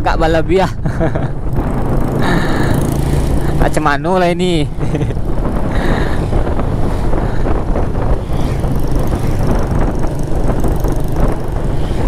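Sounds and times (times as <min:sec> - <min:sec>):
wind rushing over microphone: 0:00.0 - 0:12.0
motorcycle engine: 0:01.0 - 0:12.0.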